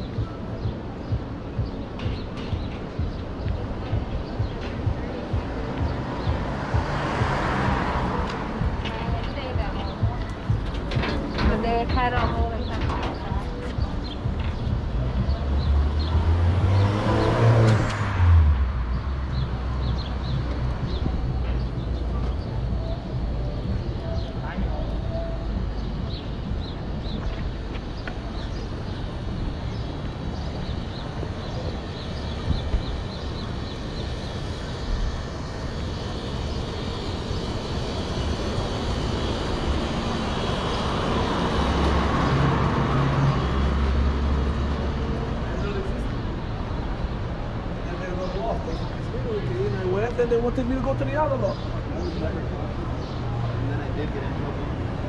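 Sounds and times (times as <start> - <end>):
city traffic rumble: 0.0 - 55.0
low engine hum: 0.0 - 55.0
car passing: 2.5 - 55.0.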